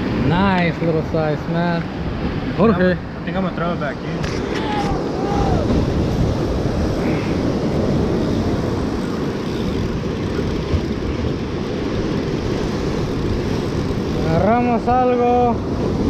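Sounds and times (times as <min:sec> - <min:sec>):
surf breaking over rocks: 0:00.0 - 0:16.0
wind buffeting microphone: 0:00.0 - 0:16.0.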